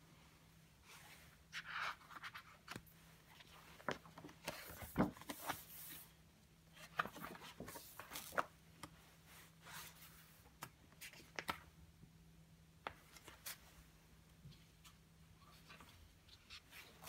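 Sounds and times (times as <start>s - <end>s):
sample book pages rustling: 0.8s - 11.7s, 12.8s - 17.0s.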